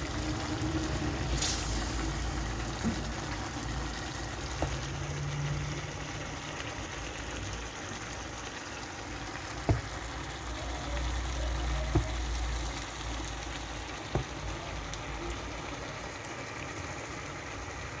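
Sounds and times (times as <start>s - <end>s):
batter sizzling in a frying pan: 0.0s - 18.0s.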